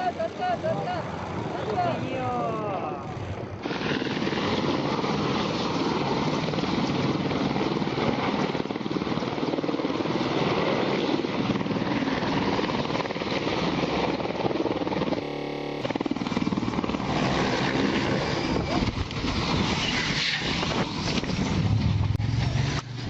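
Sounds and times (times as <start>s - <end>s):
helicopter rotor chop: 0.0s - 23.0s.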